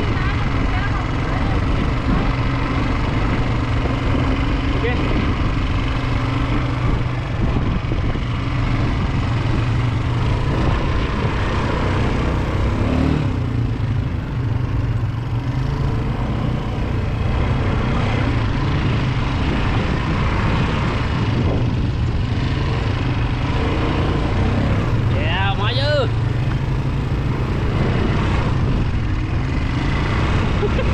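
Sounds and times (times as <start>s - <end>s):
atv engine running: 0.0s - 30.9s.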